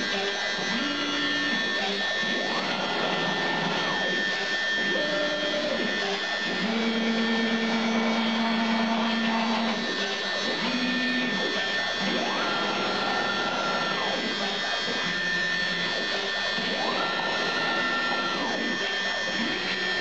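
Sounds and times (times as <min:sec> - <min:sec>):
router motor whirring: 0:00.0 - 0:20.0
stepper motors singing: 0:00.0 - 0:20.0.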